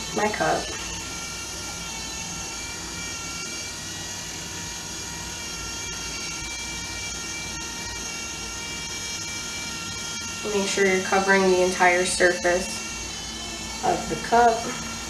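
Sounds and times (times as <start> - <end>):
electric motor whine and hum: 0.0 - 15.0.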